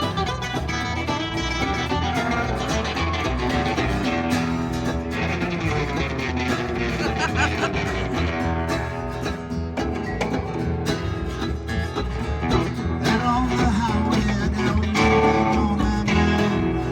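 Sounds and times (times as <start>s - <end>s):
country band playing: 0.0s - 16.9s.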